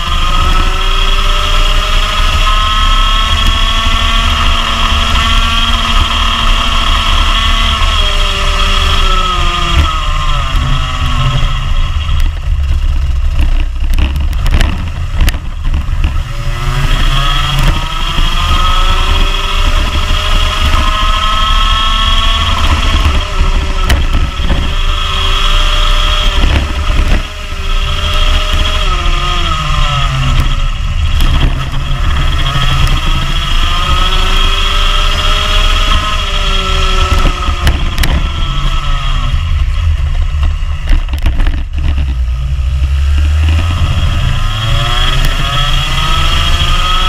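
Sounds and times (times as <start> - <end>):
kart engine revving: 0.0 - 47.0
sharp thumps and rattles: 0.0 - 47.0.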